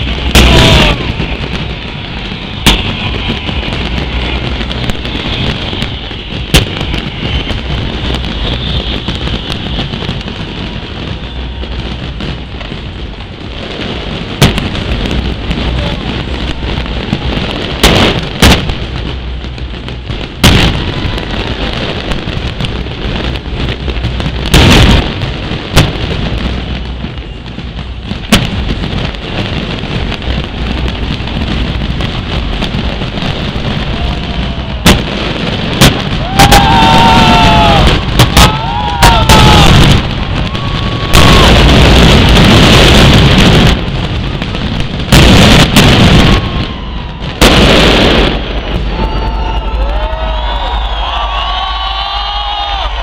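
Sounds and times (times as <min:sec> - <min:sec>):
firework bangs: 0:00.0 - 0:53.0.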